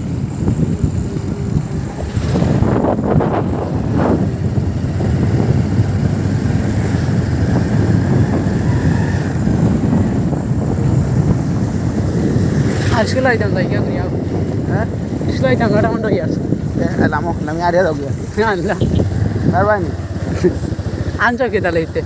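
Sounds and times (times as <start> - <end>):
motorcycle engine: 0.0 - 22.0
road noise: 0.0 - 22.0
wind rumbling on microphone: 0.0 - 22.0.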